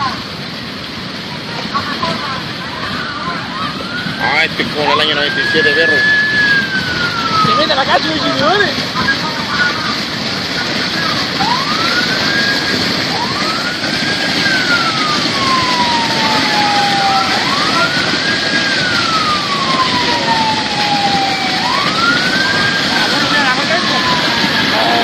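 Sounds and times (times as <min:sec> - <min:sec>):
emergency siren wailing: 0:00.0 - 0:25.0
loud steady rushing noise: 0:00.0 - 0:25.0.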